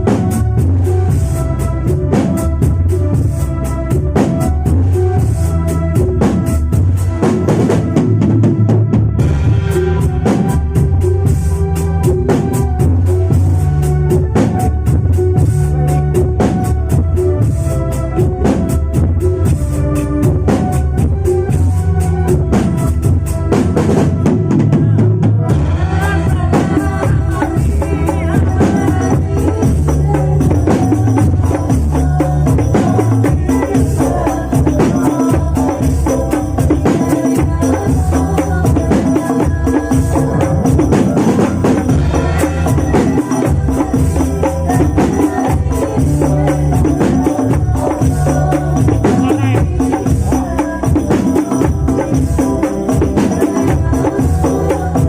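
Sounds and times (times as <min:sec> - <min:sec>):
frame drums playing a rhythm: 0:00.0 - 0:55.0.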